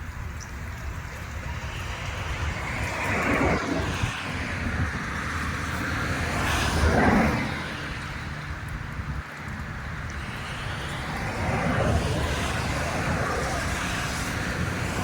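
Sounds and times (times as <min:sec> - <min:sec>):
road vehicles passing by: 0:00.0 - 0:15.0.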